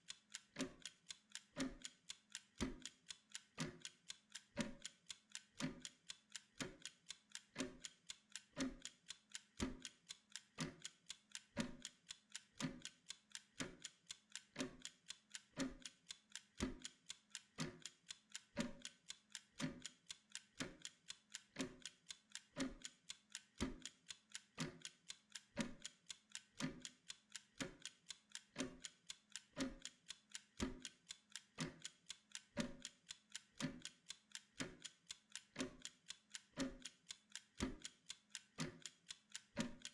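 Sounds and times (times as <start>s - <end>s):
mechanical kitchen timer ticking: 0.0s - 39.9s.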